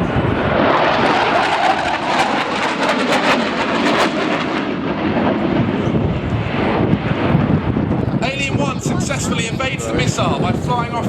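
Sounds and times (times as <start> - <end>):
jet engine roaring with crackling: 0.0 - 11.0.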